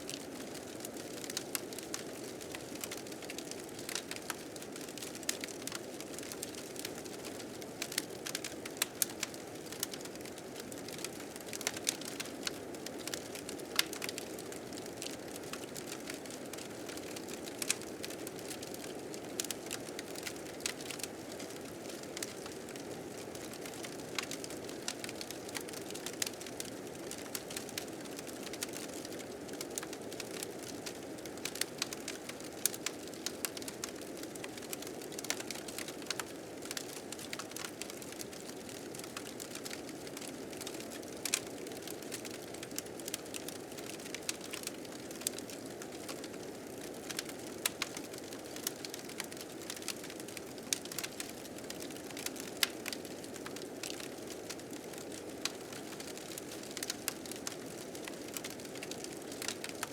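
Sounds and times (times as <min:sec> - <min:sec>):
wood fire crackling and popping: 0:00.1 - 0:59.9.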